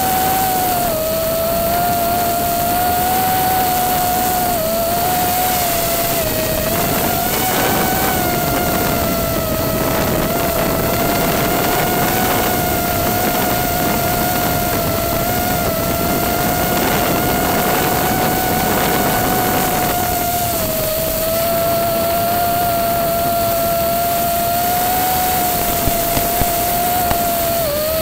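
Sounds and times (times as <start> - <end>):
constant hiss: 0.0 - 28.0
steady high whine: 0.0 - 28.0.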